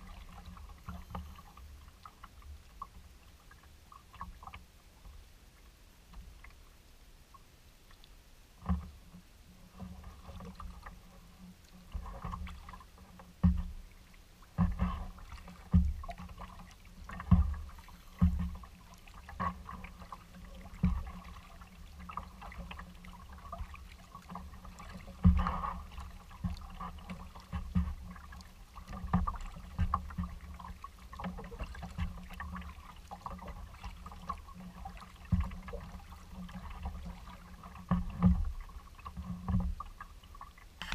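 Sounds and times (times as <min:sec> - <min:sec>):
kayak paddle splashing: 0:00.0 - 0:40.9.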